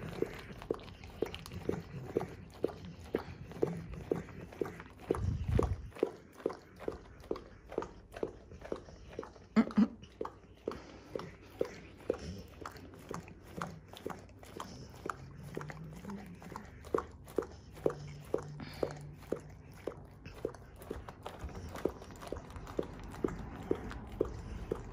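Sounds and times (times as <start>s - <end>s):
dog licking plastic bag: 0.0s - 24.9s.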